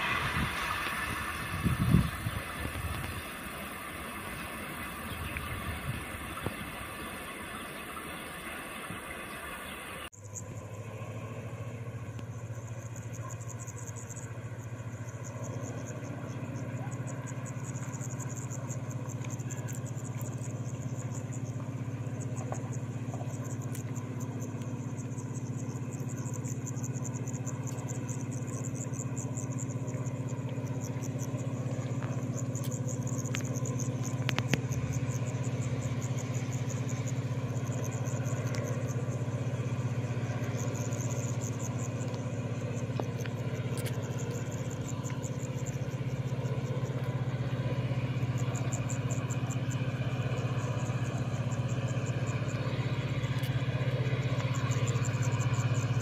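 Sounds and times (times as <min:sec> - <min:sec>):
locomotive low hum: 0:00.0 - 0:56.0.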